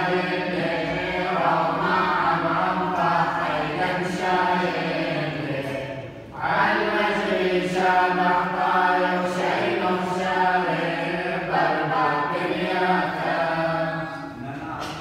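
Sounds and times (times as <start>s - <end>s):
voices chanting: 0.0s - 15.0s.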